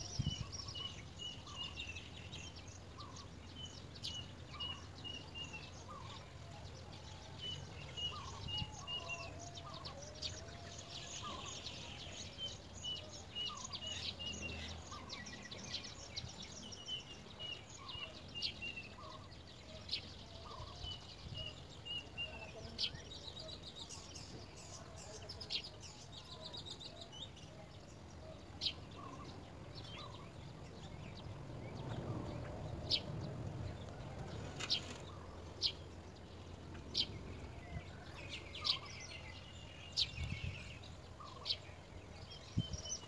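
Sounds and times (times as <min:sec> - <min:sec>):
outdoor background noise: 0:00.0 - 0:43.0
small birds chirping: 0:00.0 - 0:43.0.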